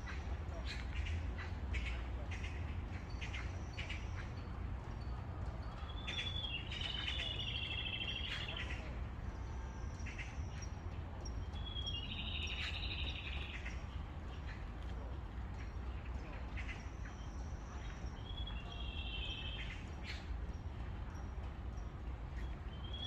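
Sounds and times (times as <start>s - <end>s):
songbirds calling: 0.0s - 23.0s.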